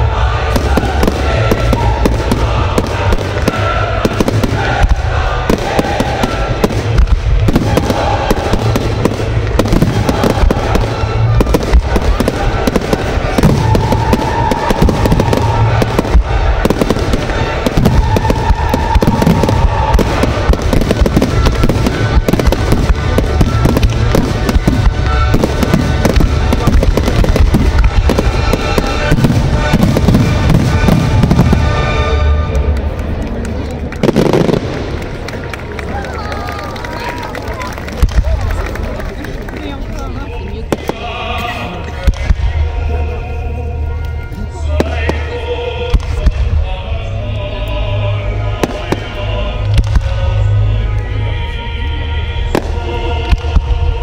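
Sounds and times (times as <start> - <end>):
fireworks bangs and crackling: 0.0 - 43.2, 44.0 - 51.3, 52.2 - 54.0
music playing: 0.0 - 54.0.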